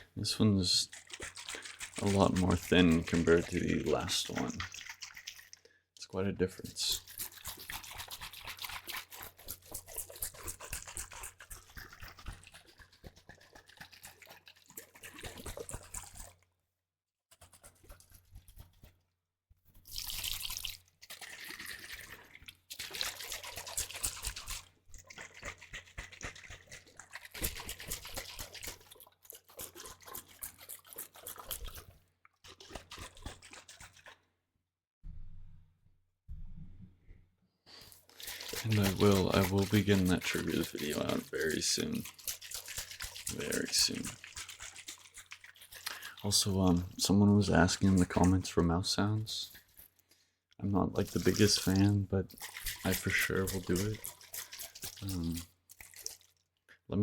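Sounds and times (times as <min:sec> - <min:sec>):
wet liquid swishing and dripping: 0:00.0 - 0:16.7, 0:17.3 - 0:34.4, 0:37.8 - 0:57.0.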